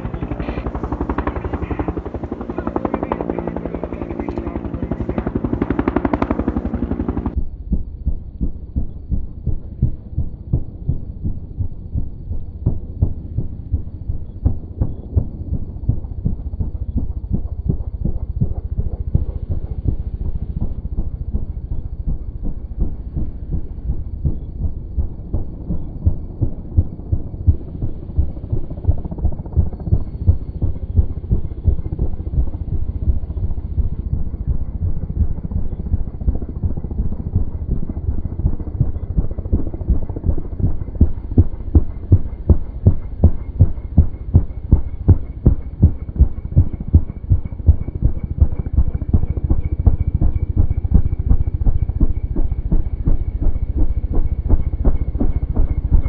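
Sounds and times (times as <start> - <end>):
helicopter rotor blades beating: 0.0 - 56.0
high turbine whine: 0.0 - 56.0.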